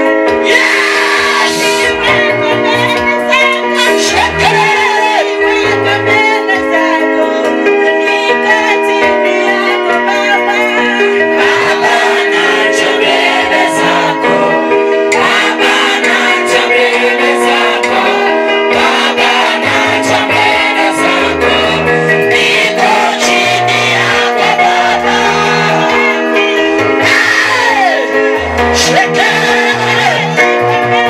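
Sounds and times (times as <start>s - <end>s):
keyboard chords: 0.0s - 31.0s
percussion: 0.0s - 31.0s
people singing: 0.3s - 31.0s.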